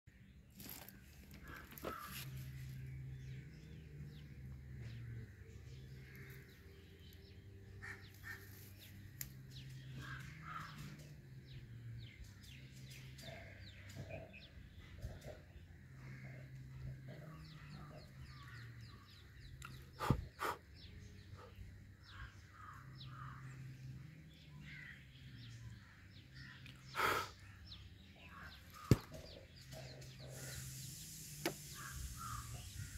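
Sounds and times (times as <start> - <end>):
faint bird chirping: 0.1 - 32.9.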